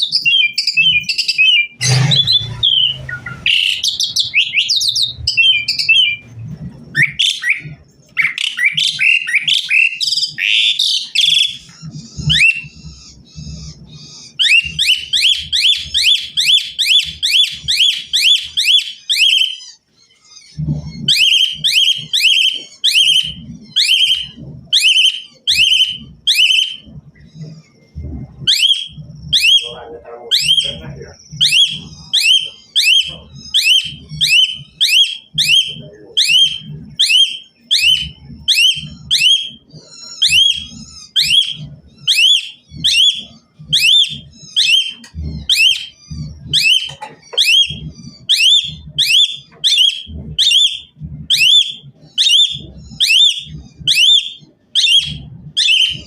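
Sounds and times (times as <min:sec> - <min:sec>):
starling singing: 0:00.0 - 0:27.8, 0:28.4 - 0:56.0.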